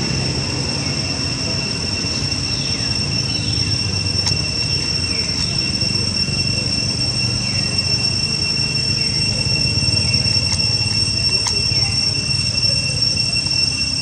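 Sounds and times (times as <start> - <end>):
high-pitched drone: 0.0 - 14.0.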